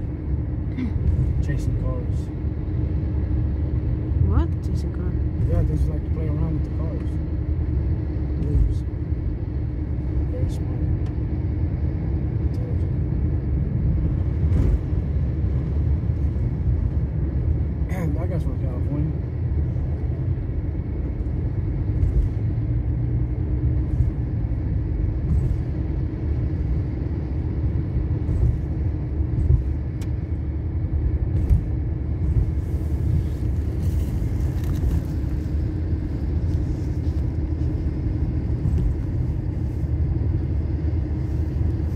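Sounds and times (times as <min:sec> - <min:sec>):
car engine and tyre rumble: 0:00.0 - 0:41.9
constant hum: 0:00.0 - 0:41.9.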